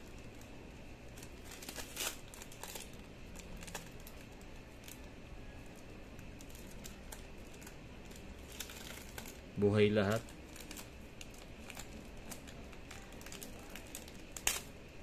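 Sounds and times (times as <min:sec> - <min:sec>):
plastic bags crinkling: 0:00.0 - 0:14.8.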